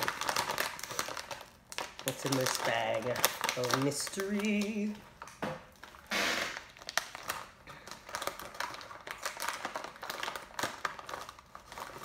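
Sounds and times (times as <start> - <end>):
plastic snack bag crinkling: 0.0 - 12.0.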